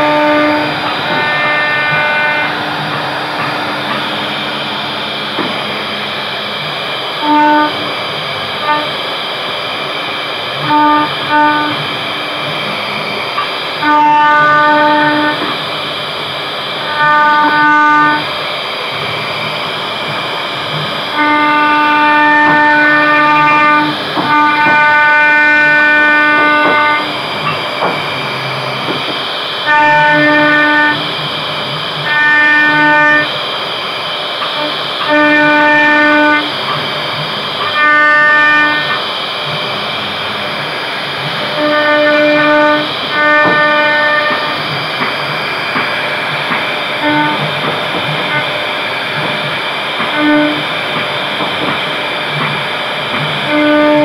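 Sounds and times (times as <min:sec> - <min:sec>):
loud droning machine whine: 0:00.0 - 0:54.0.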